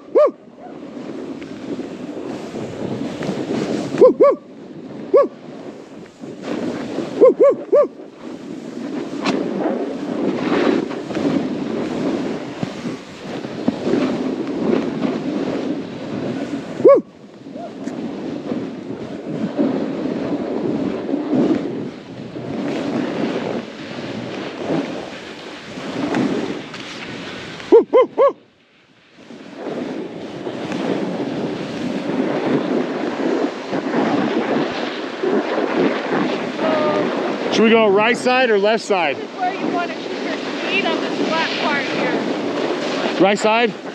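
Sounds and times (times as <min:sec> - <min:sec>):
snowboard carving through snow: 0:00.0 - 0:43.9
wind on microphone: 0:00.0 - 0:43.9.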